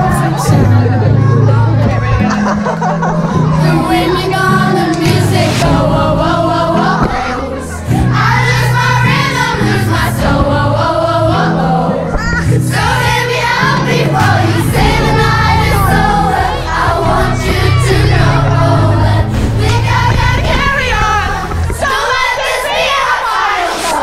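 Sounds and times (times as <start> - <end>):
song with singing and bass: 0.0 - 24.0.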